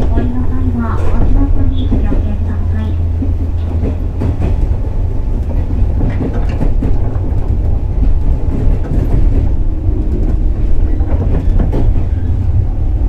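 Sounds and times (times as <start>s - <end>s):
train wheels rumbling: 0.0s - 13.0s
wheels clacking over rail joints: 0.0s - 13.0s.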